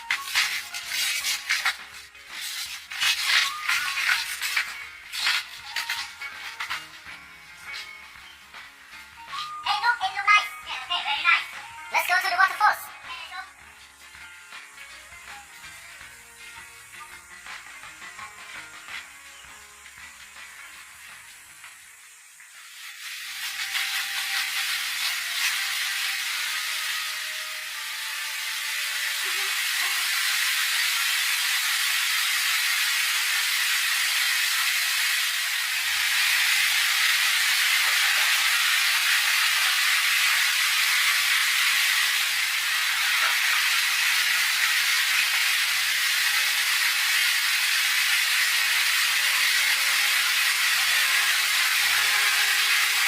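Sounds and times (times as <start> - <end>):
steady hiss: 0.0 - 10.2, 10.8 - 53.0.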